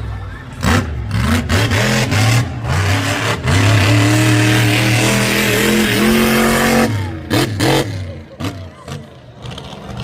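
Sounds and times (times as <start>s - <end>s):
monster truck engine revving: 0.0s - 10.0s.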